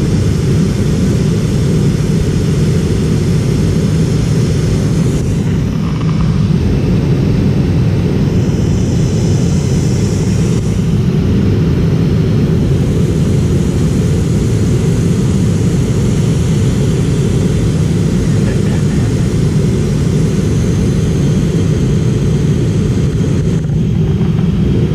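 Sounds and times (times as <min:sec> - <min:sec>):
airflow rumble in airliner cabin: 0:00.0 - 0:24.9
jet engines droning: 0:00.0 - 0:24.9.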